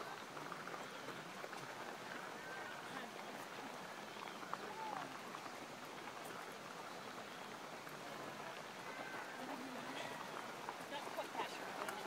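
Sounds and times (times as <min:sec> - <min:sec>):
faint spectator voices: 0:00.0 - 0:12.0
runners' footsteps on dirt path: 0:00.0 - 0:12.0.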